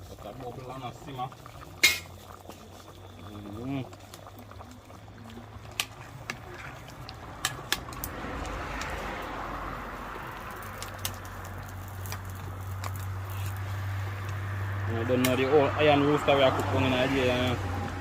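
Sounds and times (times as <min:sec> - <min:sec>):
wood fire popping and crackling: 0:00.0 - 0:15.8
stew bubbling: 0:00.0 - 0:18.0.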